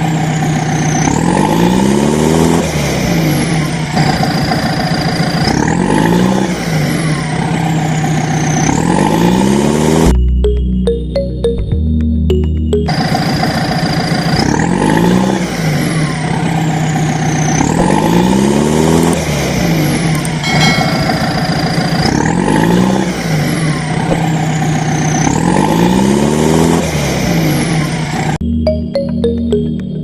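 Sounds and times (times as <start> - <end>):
heavy vehicle engine revving: 0.0 - 10.2, 12.9 - 28.4.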